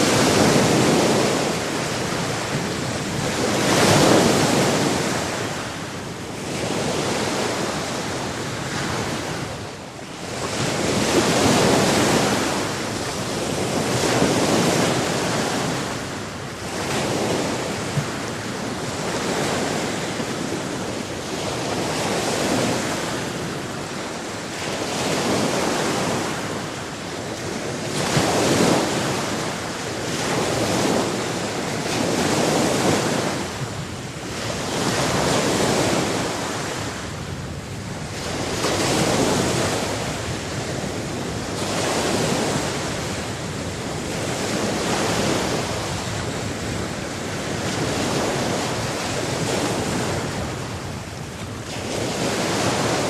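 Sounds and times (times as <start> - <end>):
sea waves washing in: 0.0 - 53.0.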